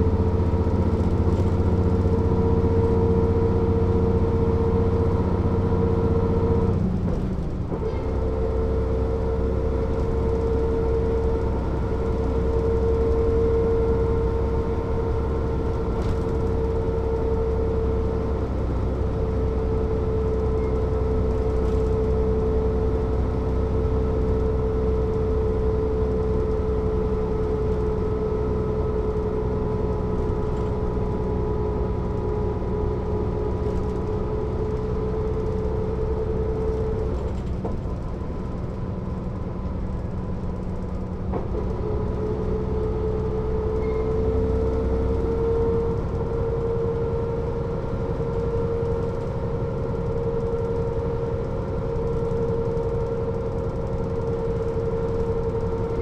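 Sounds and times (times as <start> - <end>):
bus diesel engine whining: 0.0 - 56.0.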